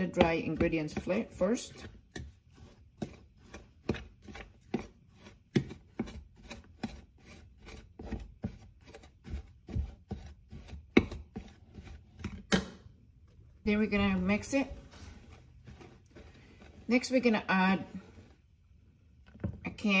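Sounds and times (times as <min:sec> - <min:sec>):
utensil scraping ceramic bowl: 0:00.0 - 0:12.6, 0:13.7 - 0:18.6.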